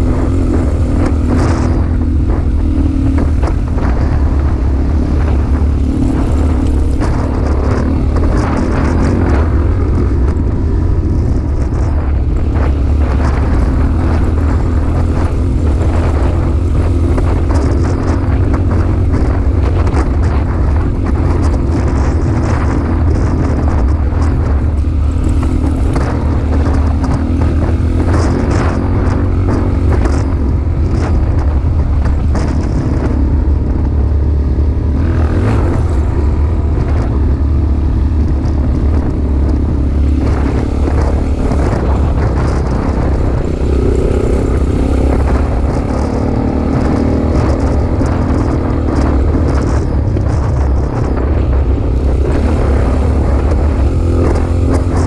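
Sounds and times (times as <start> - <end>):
off-road vehicle engine rumble: 0.0 - 55.0.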